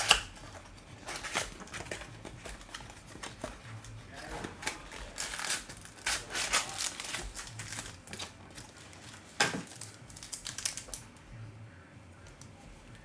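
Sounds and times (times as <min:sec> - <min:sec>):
wrappers rustling and crinkling: 0:00.0 - 0:11.2.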